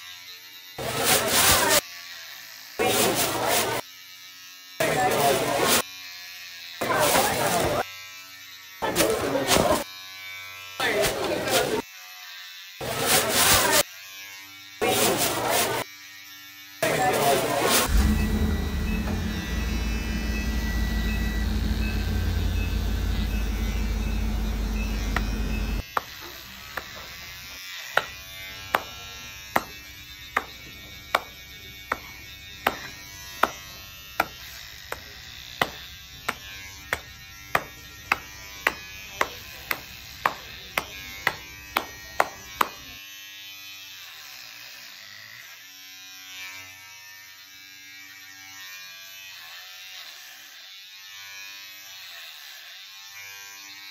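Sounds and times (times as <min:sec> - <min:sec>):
electric hair clippers buzzing: 0:00.0 - 0:53.9.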